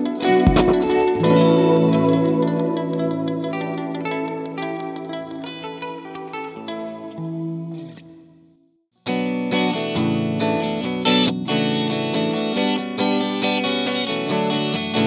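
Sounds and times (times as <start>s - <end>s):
electric guitar with shimmering tone: 0.0s - 15.0s.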